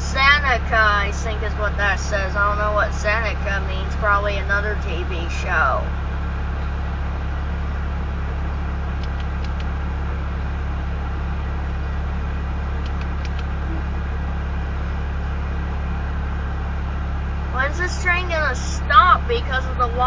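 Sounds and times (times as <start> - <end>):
freight train cars rumbling: 0.0 - 20.0.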